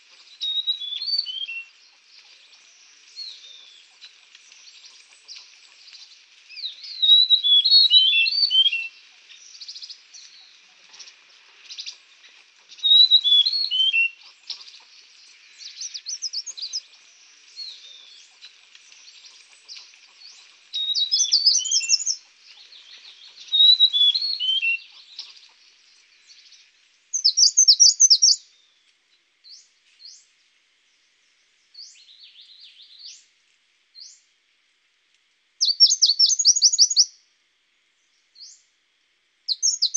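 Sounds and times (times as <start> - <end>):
songbirds chirping and trilling: 0.0 - 33.4, 35.6 - 37.2, 37.9 - 38.8, 39.5 - 39.9
faint hiss: 0.0 - 39.9.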